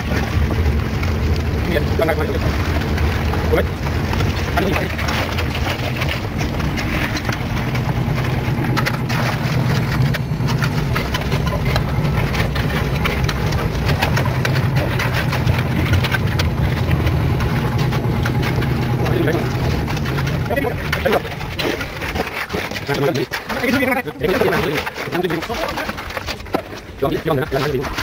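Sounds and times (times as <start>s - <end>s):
engine running: 0.0s - 28.0s
trowel and shovels scraping concrete: 4.4s - 28.0s.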